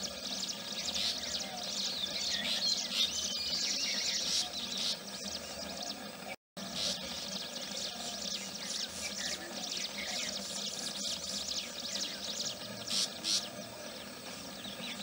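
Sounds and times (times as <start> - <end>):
small birds chirping and twittering: 0.0 - 15.0.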